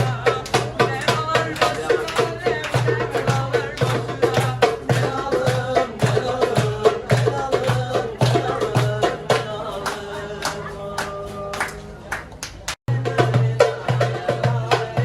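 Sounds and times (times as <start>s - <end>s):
steady drum beat: 0.0s - 11.5s, 12.9s - 15.0s.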